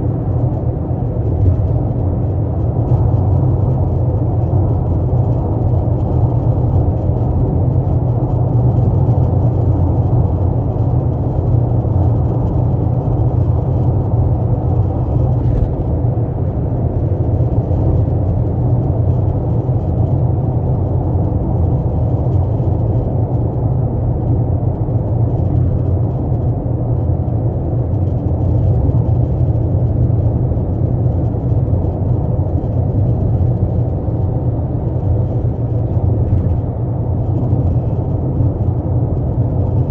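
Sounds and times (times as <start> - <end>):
car engine rumble from inside: 0.0 - 39.9.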